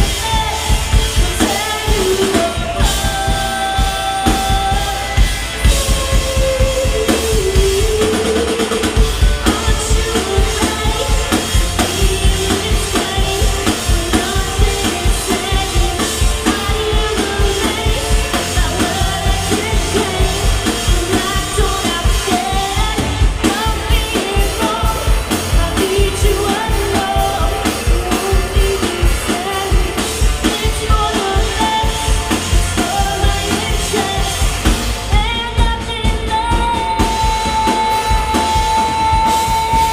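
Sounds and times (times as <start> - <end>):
drum kit beat: 0.0 - 39.9
lead vocal singing: 0.0 - 39.9
live rock band playing: 0.0 - 39.9.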